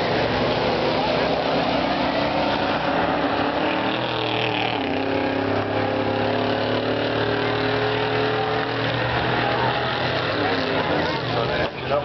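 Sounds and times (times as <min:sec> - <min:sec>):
bus engines droning: 0:00.0 - 0:12.0.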